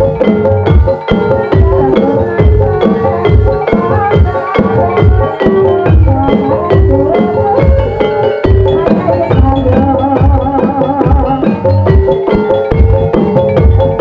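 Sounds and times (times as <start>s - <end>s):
gamelan music: 0.0s - 14.0s
tuned struck percussion melody: 0.0s - 14.0s.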